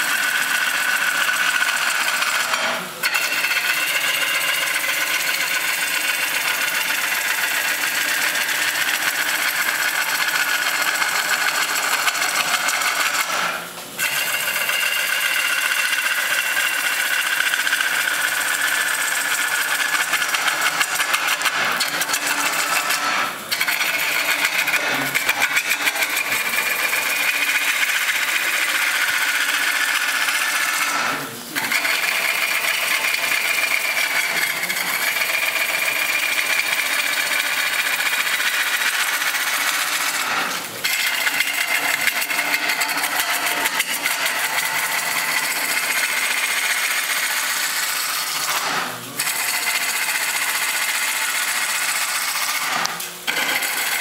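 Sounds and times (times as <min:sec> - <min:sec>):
lathe tool cutting wood: 0:00.0 - 0:54.0.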